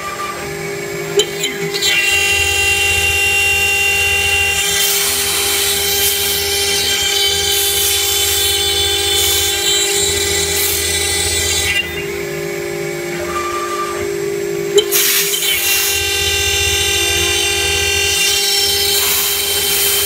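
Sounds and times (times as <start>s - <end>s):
bit cutting aluminum panel: 0.0s - 12.2s, 14.7s - 20.0s
router spindle high whine: 0.0s - 20.0s.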